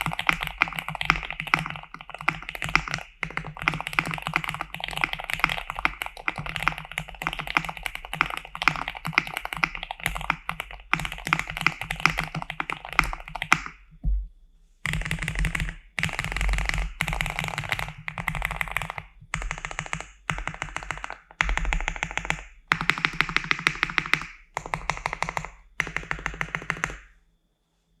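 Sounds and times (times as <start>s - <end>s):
fast typing on mechanical keyboard: 0.0s - 13.8s, 14.9s - 27.1s.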